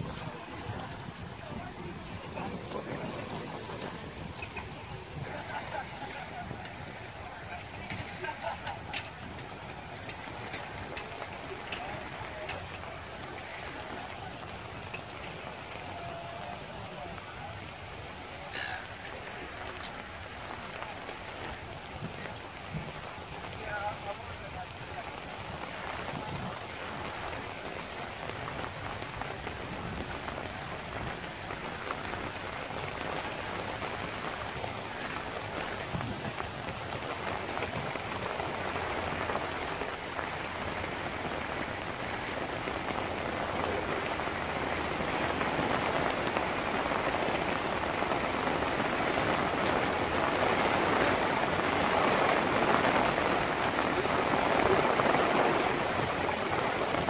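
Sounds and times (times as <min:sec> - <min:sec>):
heavy rain on water: 0:00.0 - 0:57.0.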